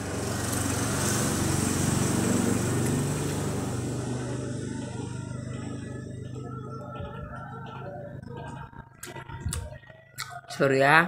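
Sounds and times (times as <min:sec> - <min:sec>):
vehicle passing by: 0:00.0 - 0:09.4.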